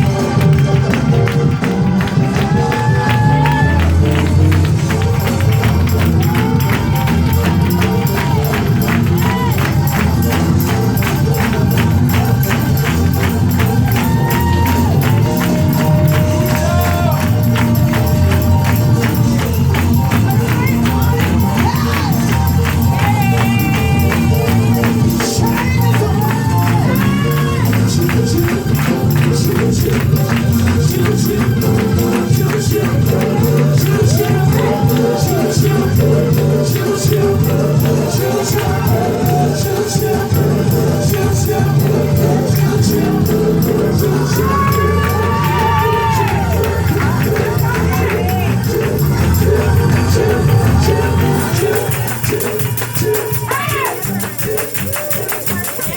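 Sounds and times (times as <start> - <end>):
gospel praise music: 0.0 - 55.9
tambourine shaken rapidly: 0.0 - 55.9
voices singing: 0.0 - 55.9.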